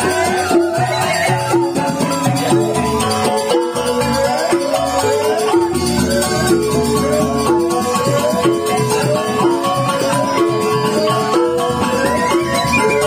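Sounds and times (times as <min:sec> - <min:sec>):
bamboo xylophones playing: 0:00.0 - 0:13.0
hand drums: 0:00.0 - 0:13.0.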